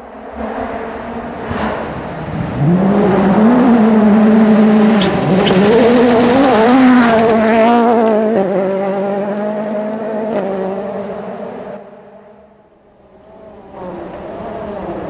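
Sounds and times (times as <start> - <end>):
rally car engine at high revs: 0.1 - 12.4, 13.2 - 15.0.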